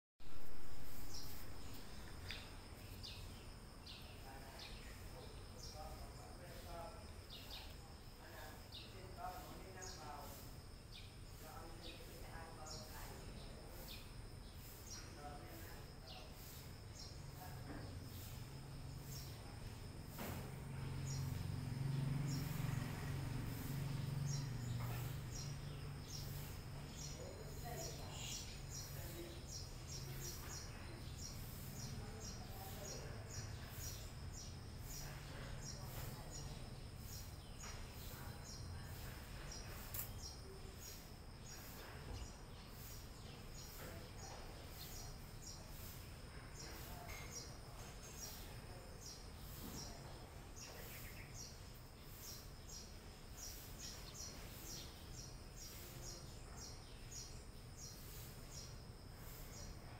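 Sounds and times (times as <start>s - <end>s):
small birds chirping: 0.2s - 59.9s.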